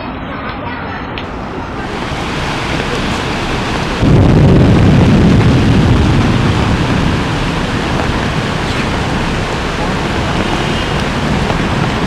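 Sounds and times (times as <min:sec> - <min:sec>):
heavy low rumble: 0:00.0 - 0:12.0
floodwater rushing: 0:00.9 - 0:12.0.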